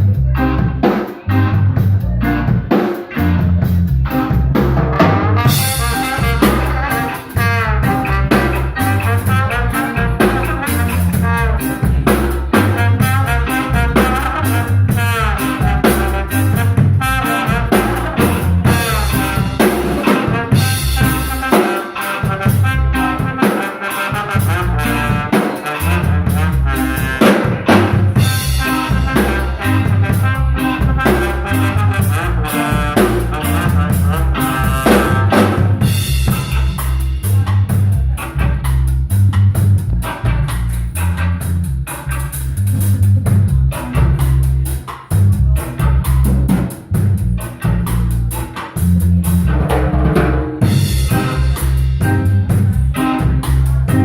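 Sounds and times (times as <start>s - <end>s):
drum kit and bass groove: 0.0s - 54.0s
wavering lead melody: 0.3s - 46.4s, 50.6s - 54.0s.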